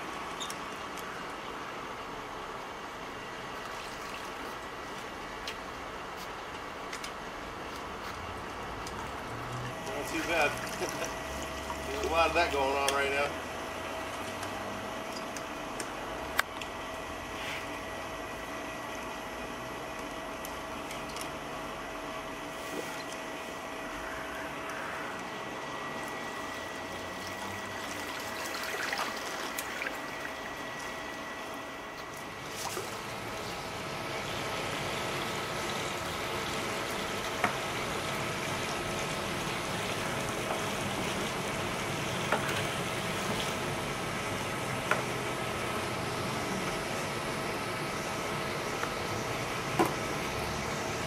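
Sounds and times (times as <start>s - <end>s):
pool water trickling: 0.0s - 17.3s, 18.3s - 51.0s
constant hum: 0.0s - 51.0s.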